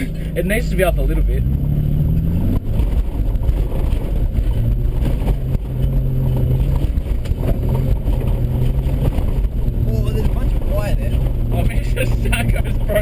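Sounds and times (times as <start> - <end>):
car engine running under load: 0.0 - 13.0
car knocking and rattling: 0.0 - 13.0.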